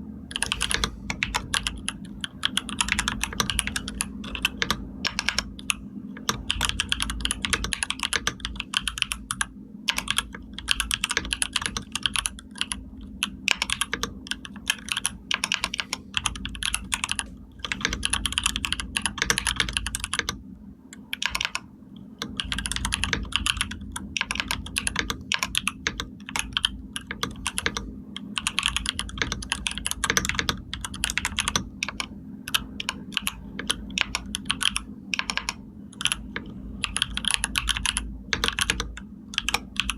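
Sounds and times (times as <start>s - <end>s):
keyboard keys clicking: 0.3s - 39.9s.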